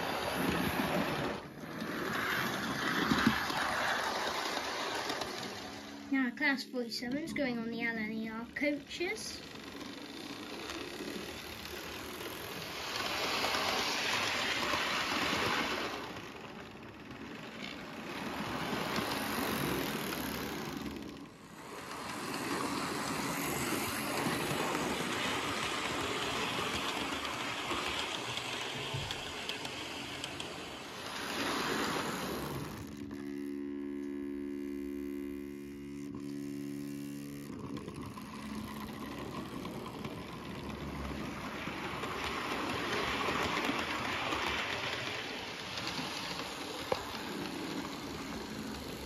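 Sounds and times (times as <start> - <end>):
model train motor whir: 0.0 - 49.0
wheels running on rails: 0.0 - 49.0.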